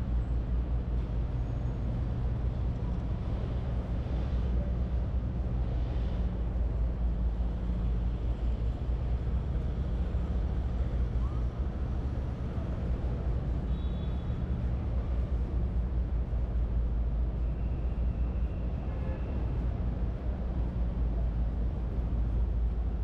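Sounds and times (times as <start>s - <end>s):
passing vehicles rumble: 0.0s - 23.0s
street hum: 0.0s - 23.0s.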